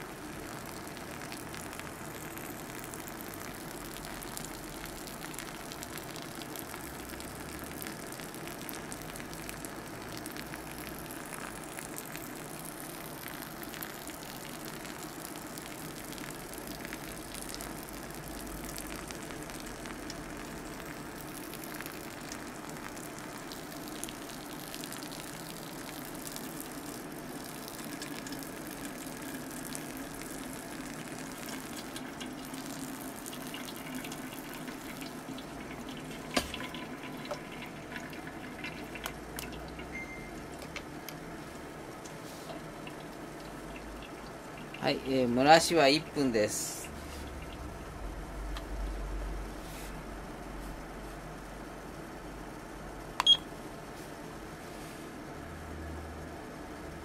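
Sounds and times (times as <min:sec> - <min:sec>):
water trickling onto coffee grounds: 0:00.0 - 0:47.7.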